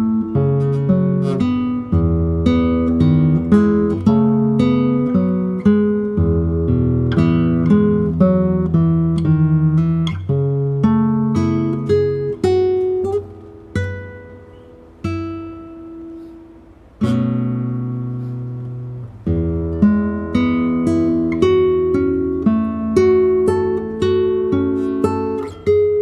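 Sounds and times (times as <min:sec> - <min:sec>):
acoustic guitar piece: 0:00.0 - 0:26.0.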